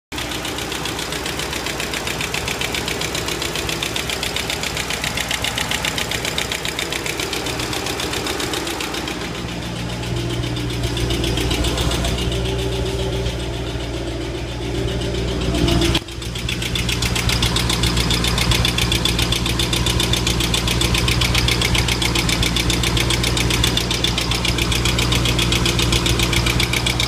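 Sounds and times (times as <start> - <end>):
car engine idling: 0.1 - 27.0
rapid engine ticking: 0.1 - 27.0.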